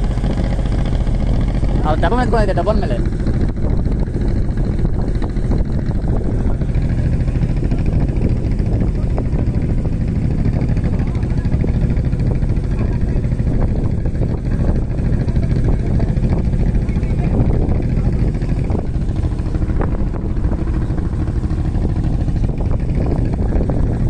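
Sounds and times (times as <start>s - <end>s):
off-road vehicle engine rumble: 0.0s - 24.0s.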